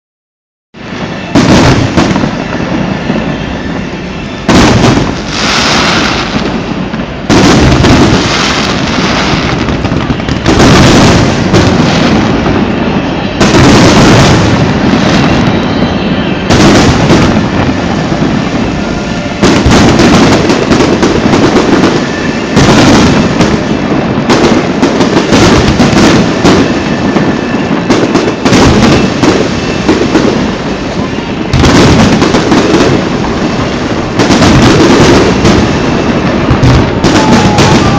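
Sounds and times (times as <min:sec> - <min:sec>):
fireworks crackling: 0:00.8 - 0:37.9
firework shells booming: 0:01.0 - 0:37.9.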